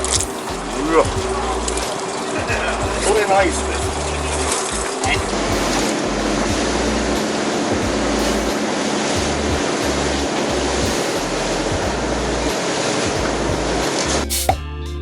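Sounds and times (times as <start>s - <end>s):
wind and sea rushing: 0.0s - 14.2s.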